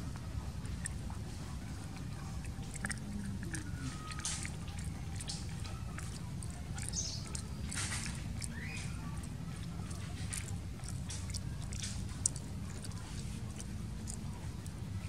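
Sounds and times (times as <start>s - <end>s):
monkey chewing food: 0.0s - 15.0s.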